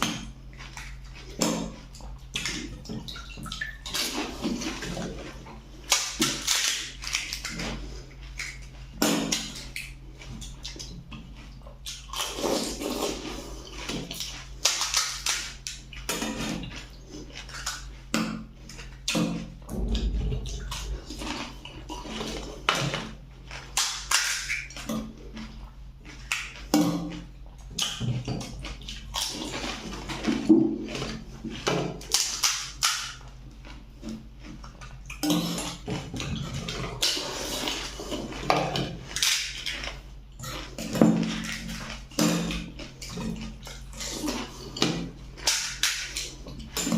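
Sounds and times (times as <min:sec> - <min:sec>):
crisp food crunching: 0:00.0 - 0:46.9
slurping liquid: 0:00.0 - 0:46.9.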